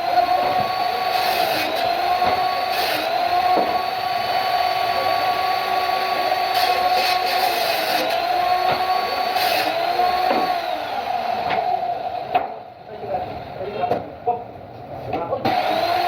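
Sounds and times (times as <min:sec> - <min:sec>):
woodworking machine motor whine: 0:00.0 - 0:12.6, 0:15.5 - 0:16.0.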